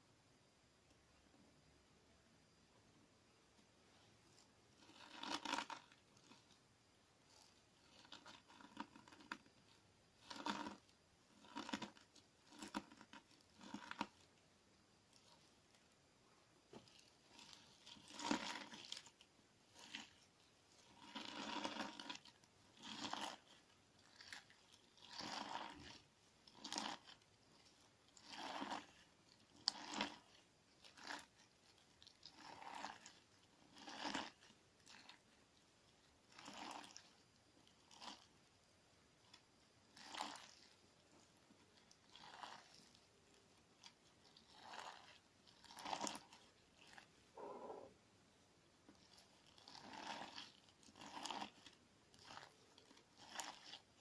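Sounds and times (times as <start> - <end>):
crunchy slime squishing: 3.9 - 6.6, 7.2 - 14.4, 15.0 - 16.0, 16.6 - 47.9, 48.8 - 54.0.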